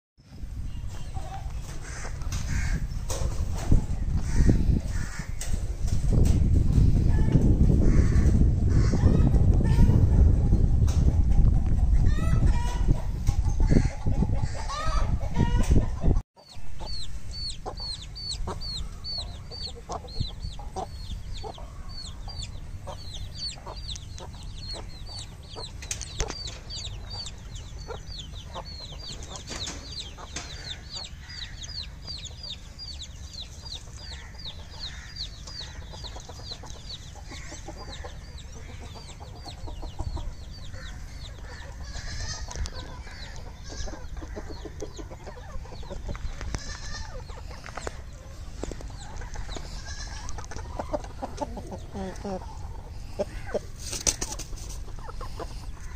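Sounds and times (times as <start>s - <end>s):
chicks peeping: 0.5s - 55.9s
hens clucking: 1.0s - 55.9s.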